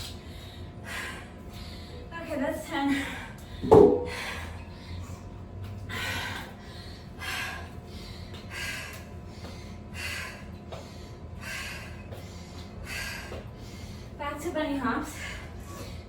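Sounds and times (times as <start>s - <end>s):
woman breathing hard: 0.0s - 2.1s, 2.7s - 14.2s, 15.0s - 16.0s.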